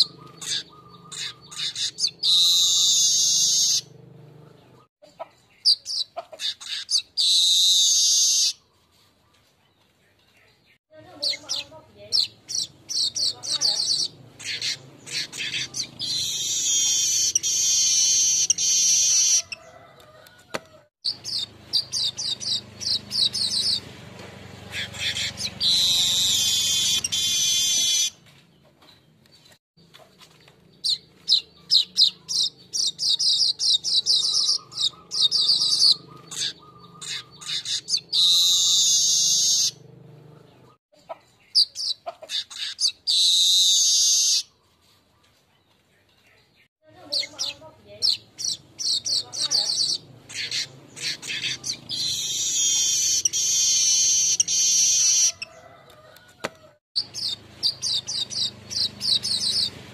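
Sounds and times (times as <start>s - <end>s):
bird buzzy chattering song: 0.0s - 9.4s, 10.7s - 19.6s, 21.0s - 28.2s, 28.9s - 55.5s, 57.0s - 59.9s.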